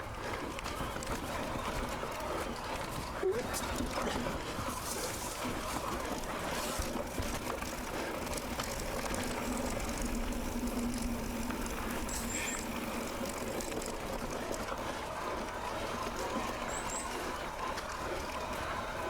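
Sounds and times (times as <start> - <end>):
bike tyres rolling on dirt: 0.0 - 19.0.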